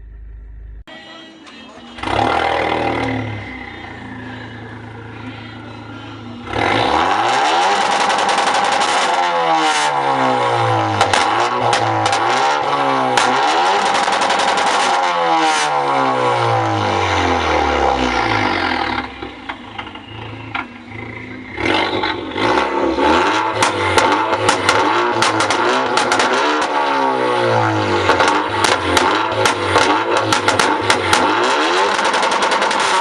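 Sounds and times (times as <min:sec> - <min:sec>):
car engine revving: 0:02.0 - 0:33.0.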